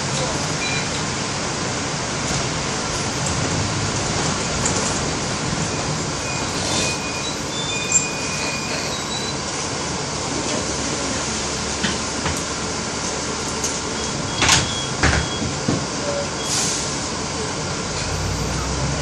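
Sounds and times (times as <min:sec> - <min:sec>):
city bus engine and road noise: 0:00.0 - 0:19.0.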